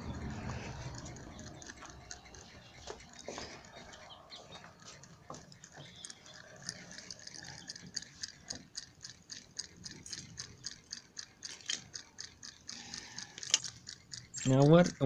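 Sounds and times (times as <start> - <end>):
small solenoid engine ticking: 0.0 - 15.0.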